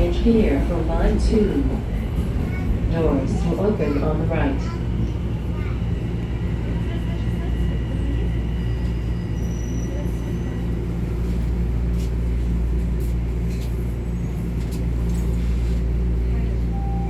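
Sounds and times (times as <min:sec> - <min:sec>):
subway car hum: 0:00.0 - 0:17.0.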